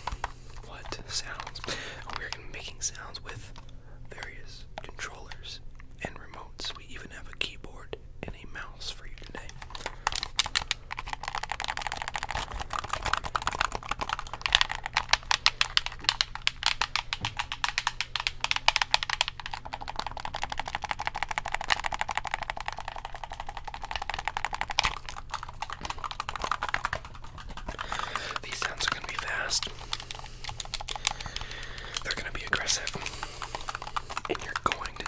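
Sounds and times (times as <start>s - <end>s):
rapid typing on keyboard: 0.0s - 5.4s, 8.6s - 35.0s.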